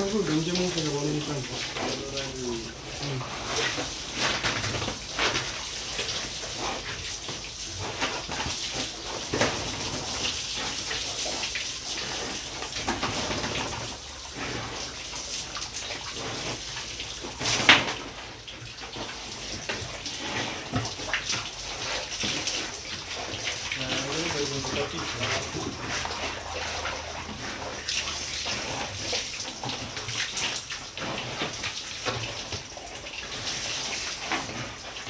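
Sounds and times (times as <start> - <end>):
hose water spraying and splashing: 0.0 - 35.0.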